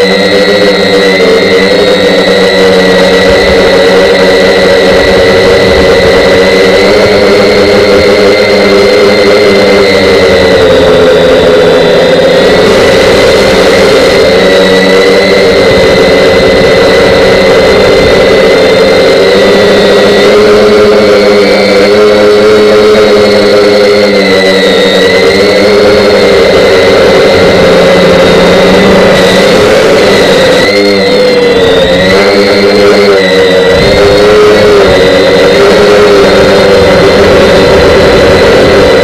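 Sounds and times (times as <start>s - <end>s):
model airplane motor droning: 0.0s - 39.0s
wind on microphone: 1.1s - 21.2s, 25.6s - 39.0s.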